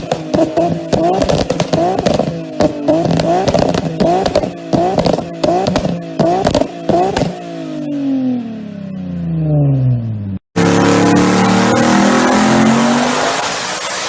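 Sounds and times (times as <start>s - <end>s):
car engine revving: 0.0s - 14.0s
car engine running loud: 0.0s - 14.0s.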